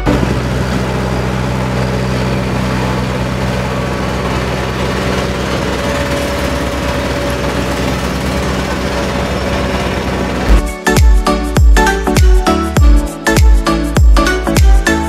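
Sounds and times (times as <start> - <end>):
road roller diesel engine running: 0.0 - 15.0.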